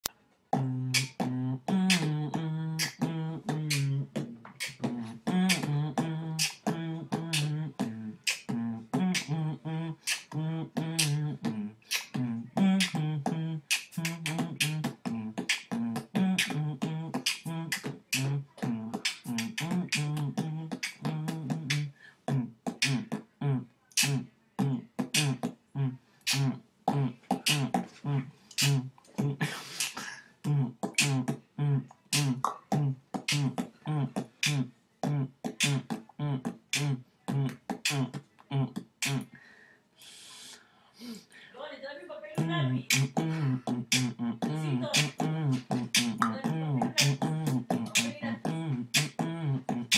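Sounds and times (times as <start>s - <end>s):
beatboxing drum hits: 0.6s - 39.3s, 42.4s - 49.9s.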